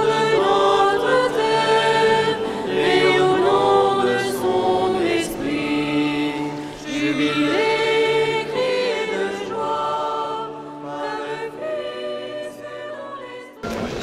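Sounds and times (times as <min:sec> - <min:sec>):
choir singing a cappella: 0:00.0 - 0:13.6.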